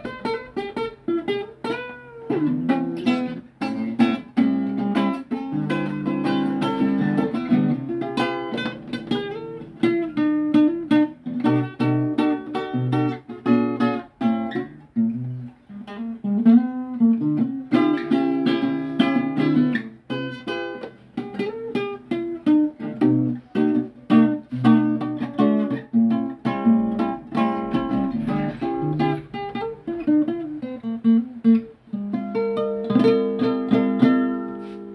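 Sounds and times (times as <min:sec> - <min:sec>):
acoustic guitar playing: 0:00.0 - 0:34.9.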